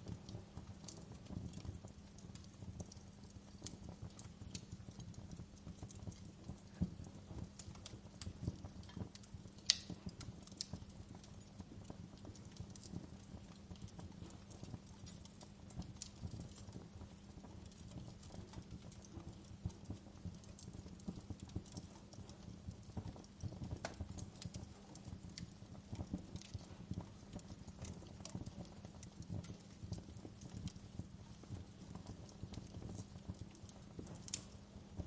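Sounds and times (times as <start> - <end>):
fire crackles and pops: 0.0 - 35.0
fire low rumble: 0.0 - 35.0.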